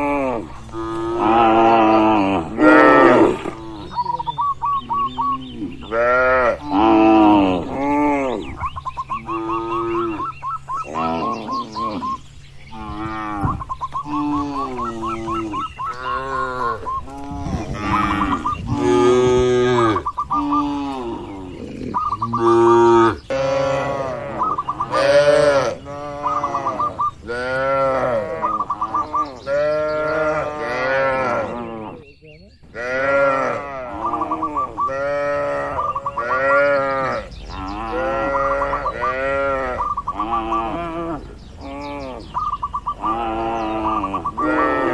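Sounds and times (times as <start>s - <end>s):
cattle mooing: 0.0s - 4.2s, 4.9s - 8.5s, 9.2s - 10.3s, 10.9s - 32.0s, 32.8s - 44.9s
bird chirping: 0.4s - 44.9s.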